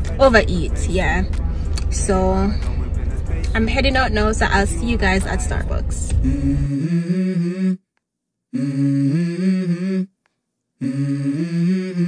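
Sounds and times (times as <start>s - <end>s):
hummed vocal melody: 0.0s - 7.8s, 8.6s - 10.2s, 10.8s - 12.0s.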